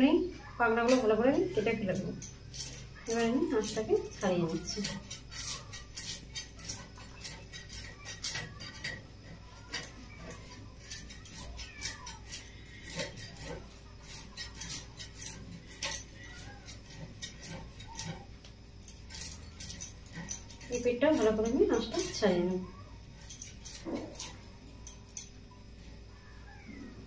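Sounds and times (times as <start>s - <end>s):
fish scales scraping on metal: 0.0s - 26.1s.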